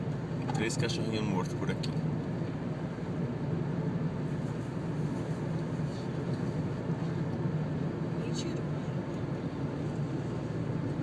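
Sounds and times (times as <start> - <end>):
car cabin road hum: 0.0 - 11.0.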